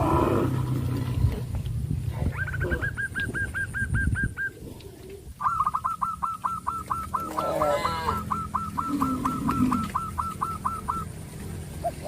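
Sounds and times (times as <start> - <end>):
low animal call: 0.0 - 11.1.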